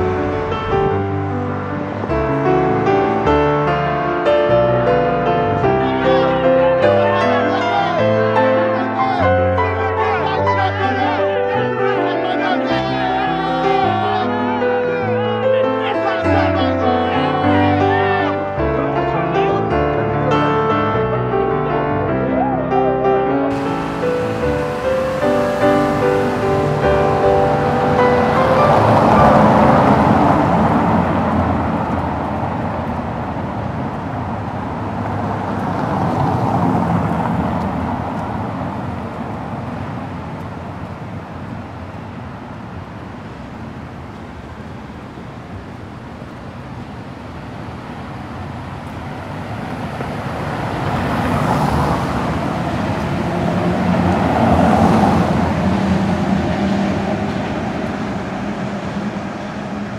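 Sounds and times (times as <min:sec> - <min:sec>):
cars passing: 0:00.0 - 0:59.9.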